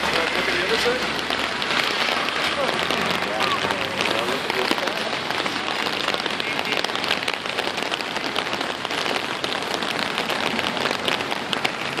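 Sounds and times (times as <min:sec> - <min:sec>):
heavy rain hissing: 0:00.0 - 0:12.0
raindrops ticking: 0:00.0 - 0:12.0.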